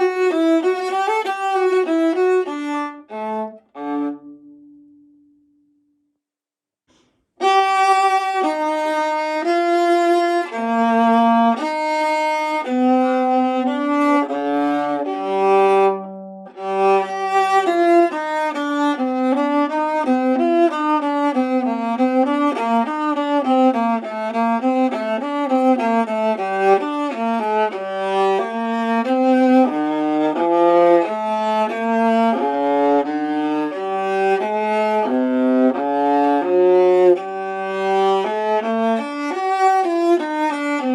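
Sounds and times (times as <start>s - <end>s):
bowed viola melody: 0.0s - 5.8s, 7.4s - 40.9s.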